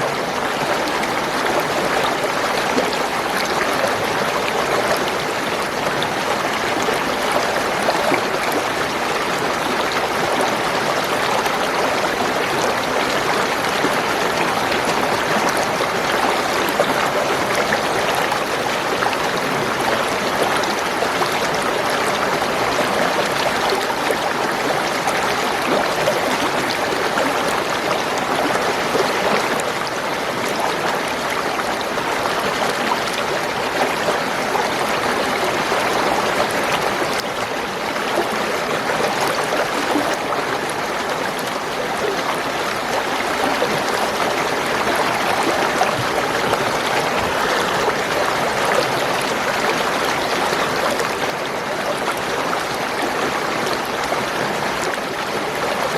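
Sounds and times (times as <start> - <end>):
stream gurgling over stones: 0.0 - 55.9.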